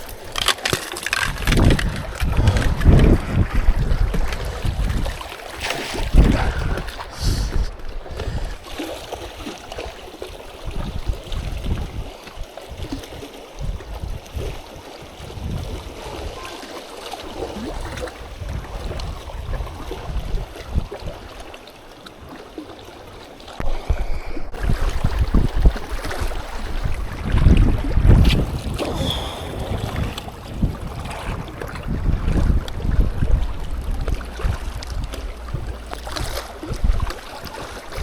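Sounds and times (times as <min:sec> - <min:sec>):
wind buffeting microphone: 0:01.2 - 0:16.5, 0:17.4 - 0:21.4, 0:23.6 - 0:38.0.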